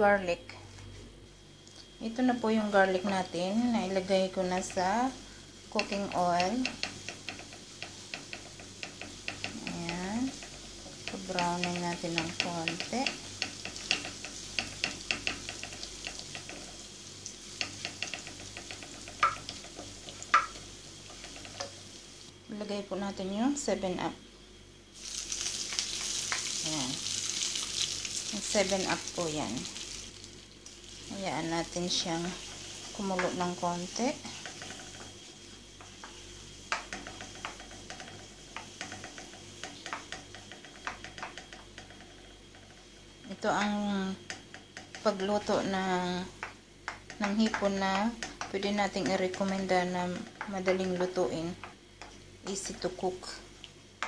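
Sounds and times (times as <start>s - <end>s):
garlic sizzling in hot oil: 1.5s - 54.0s
wooden spatula stirring: 3.8s - 22.0s, 25.0s - 43.8s, 46.4s - 53.3s.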